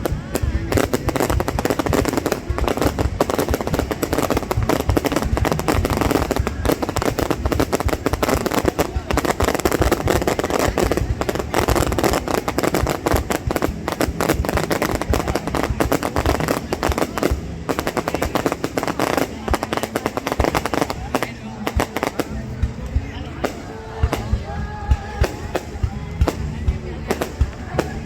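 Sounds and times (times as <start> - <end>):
crowd voices: 0.0 - 28.0
fireworks bangs and crackles: 0.0 - 28.0.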